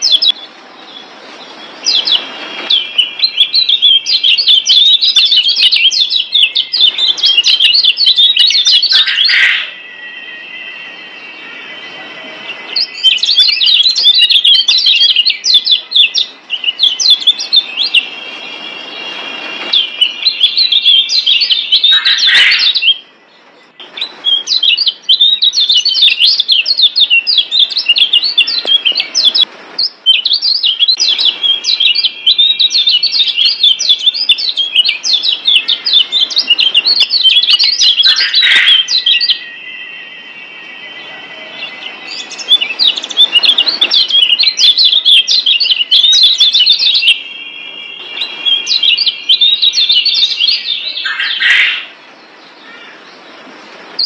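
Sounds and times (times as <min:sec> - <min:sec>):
thin steady bird trill: 0:00.0 - 0:53.4
bird twittering chatter: 0:00.0 - 0:54.0.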